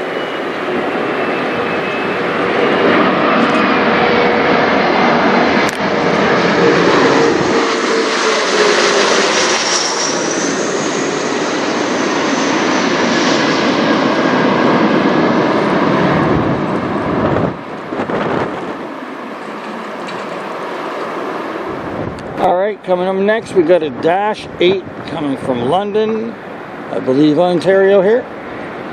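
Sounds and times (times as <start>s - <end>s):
jet roar passing overhead: 0.0s - 28.9s.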